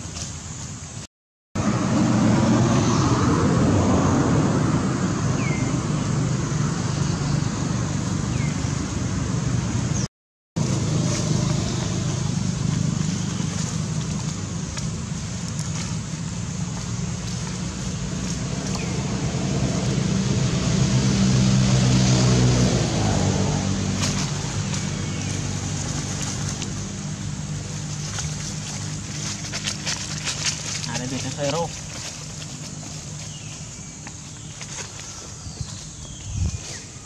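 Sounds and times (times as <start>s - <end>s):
distant road traffic rumble: 1.6s - 37.0s.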